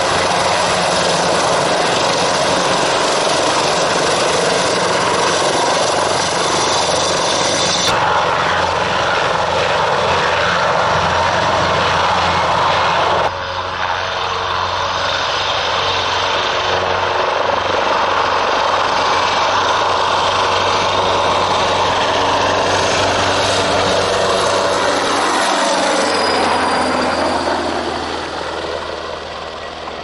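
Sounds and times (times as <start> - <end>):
helicopter rotor and engine noise: 0.0 - 30.0.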